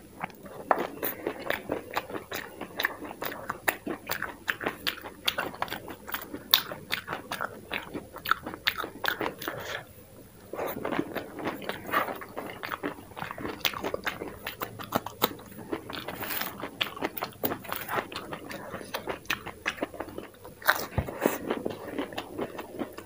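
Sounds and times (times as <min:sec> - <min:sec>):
chewing and crunching food: 0:00.0 - 0:09.9, 0:10.5 - 0:23.0.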